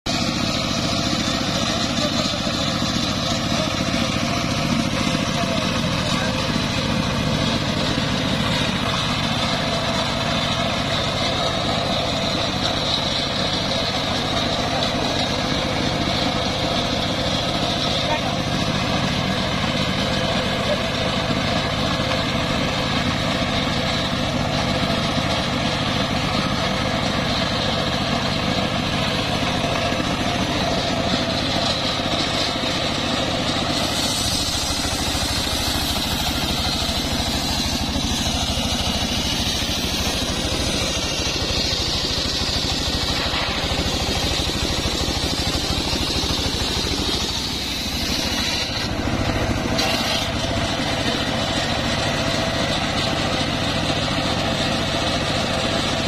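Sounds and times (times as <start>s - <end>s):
sawmill engine running: 0.0s - 56.0s
saw blade cutting log: 0.1s - 56.0s.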